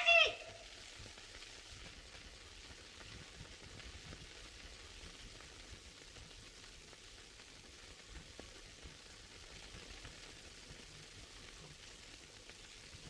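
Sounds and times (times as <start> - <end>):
film soundtrack hiss and crackle: 0.0 - 13.0.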